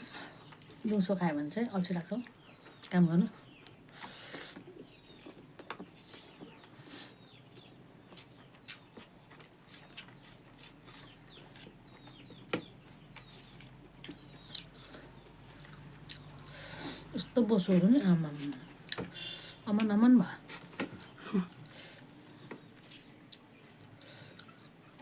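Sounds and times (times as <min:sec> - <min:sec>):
chewing food: 0:02.2 - 0:25.0.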